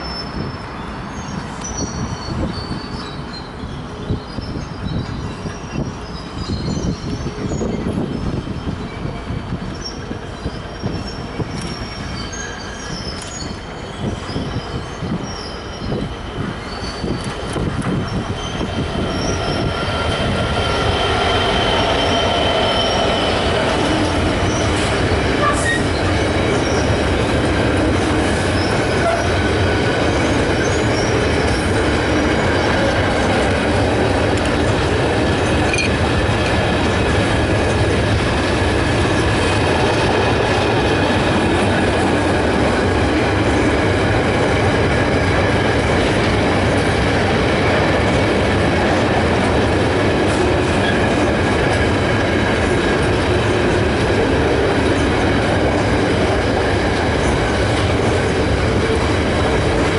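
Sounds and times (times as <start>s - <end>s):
diesel locomotive passing: 0.0s - 59.9s
train wheels squealing on rails: 0.0s - 59.9s.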